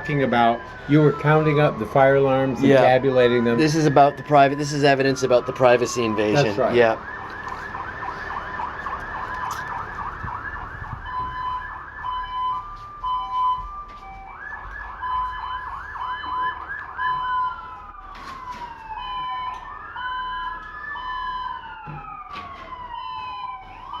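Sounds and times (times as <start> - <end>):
emergency vehicle sirens: 0.0 - 24.0.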